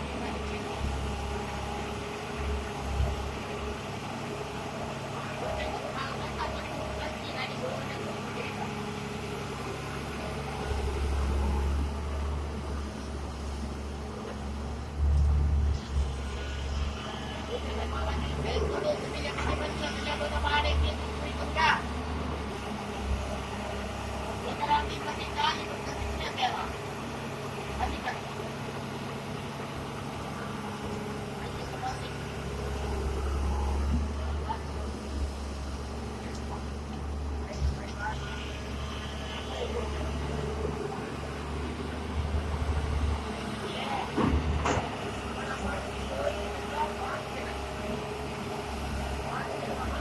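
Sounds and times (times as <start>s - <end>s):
heavy machine engine drone: 0.0s - 50.0s.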